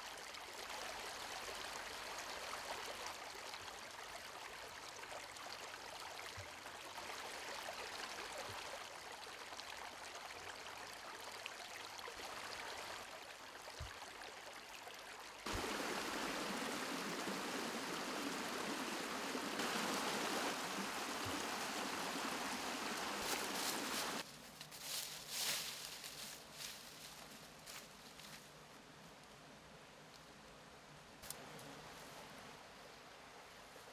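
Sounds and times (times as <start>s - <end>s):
stream flowing: 0.0s - 24.2s, 30.6s - 33.9s.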